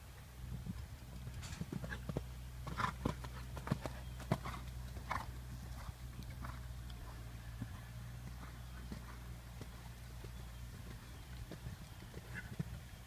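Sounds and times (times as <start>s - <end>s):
horse hoofbeats on sand: 1.0s - 13.0s.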